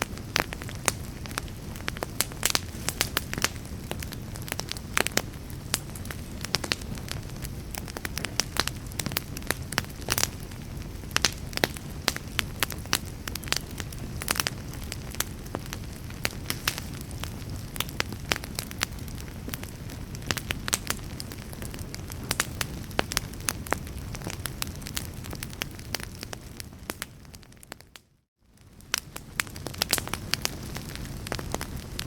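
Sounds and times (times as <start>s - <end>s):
fire crackling and popping: 0.0s - 32.0s
low rumble of flames: 0.0s - 32.0s.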